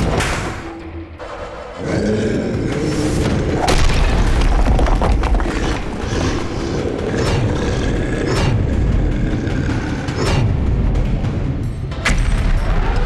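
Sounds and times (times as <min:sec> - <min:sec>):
dramatic film music: 0:00.0 - 0:13.0.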